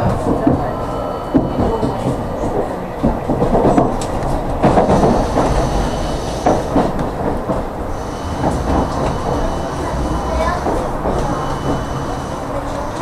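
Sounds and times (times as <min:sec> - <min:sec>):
tram passing by: 0:00.0 - 0:13.0
tram rumbling on track: 0:00.0 - 0:13.0.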